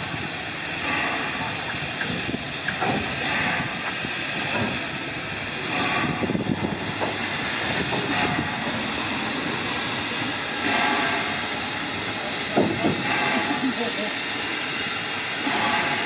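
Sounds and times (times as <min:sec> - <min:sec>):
rail noise: 0:00.0 - 0:16.0
steam locomotive hissing: 0:00.0 - 0:16.0.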